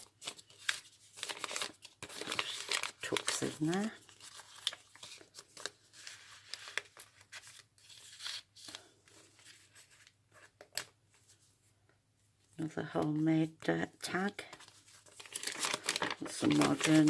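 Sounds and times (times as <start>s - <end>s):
paper rustling and crinkling: 0.0s - 11.6s, 14.4s - 17.0s.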